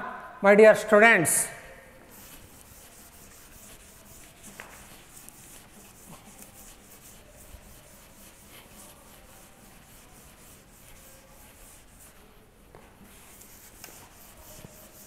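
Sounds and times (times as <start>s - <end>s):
duster wiping a blackboard: 2.0s - 15.0s.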